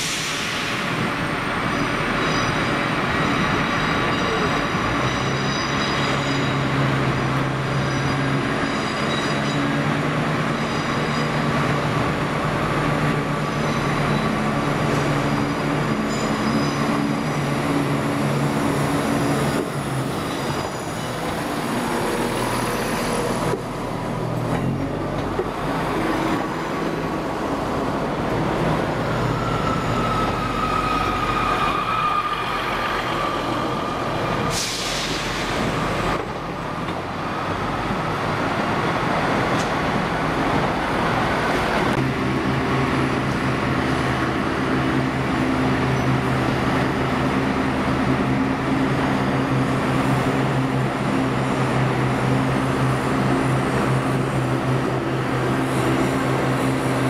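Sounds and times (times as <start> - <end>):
diesel train engine drone: 0.0 - 57.0.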